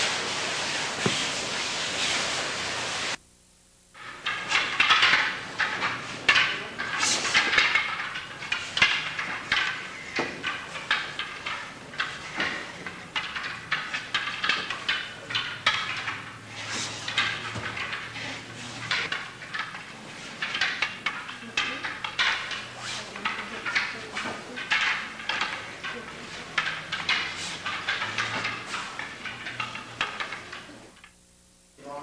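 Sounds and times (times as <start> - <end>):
wooden swords clacking: 4.0 - 31.2.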